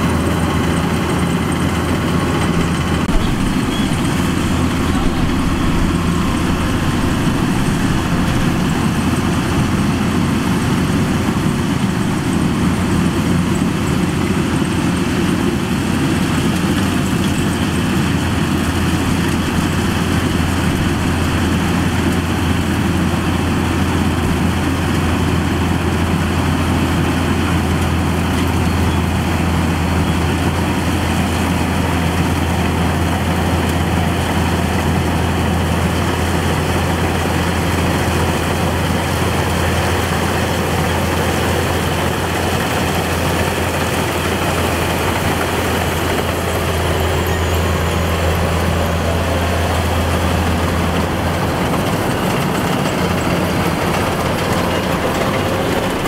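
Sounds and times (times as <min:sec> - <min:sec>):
combine harvester diesel engine running: 0:00.0 - 0:56.0.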